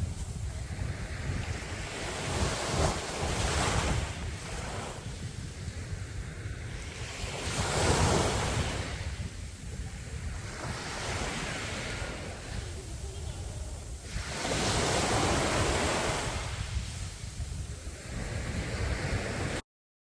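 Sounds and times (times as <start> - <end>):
sea waves breaking: 0.0 - 19.6
surf rumble: 0.0 - 19.6
wind on microphone: 0.0 - 19.6.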